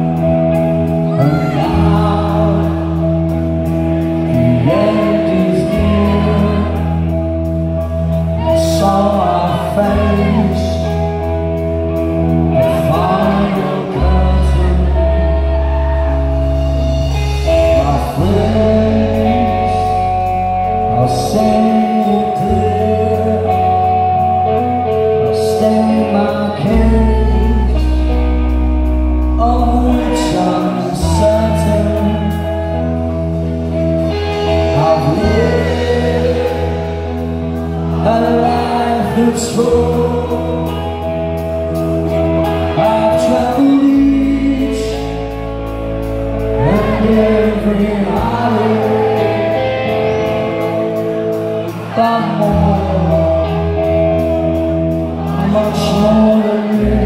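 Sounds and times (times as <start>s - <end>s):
live rock band playing: 0.0s - 57.0s
man singing: 0.0s - 57.0s.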